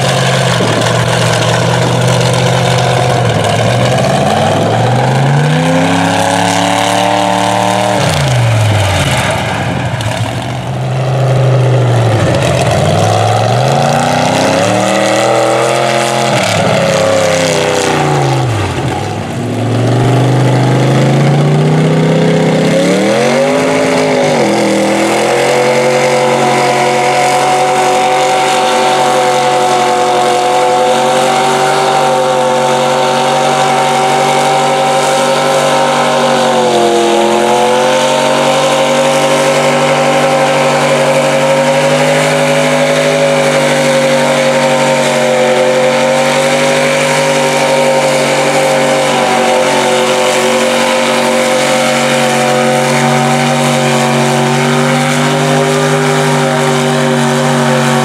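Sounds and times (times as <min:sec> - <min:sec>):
truck engine at high revs: 0:00.0 - 0:58.0.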